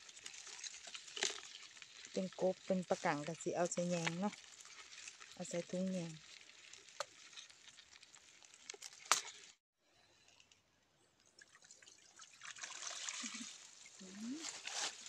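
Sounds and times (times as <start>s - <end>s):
water trickling and dripping: 0.0s - 9.6s, 10.3s - 14.7s.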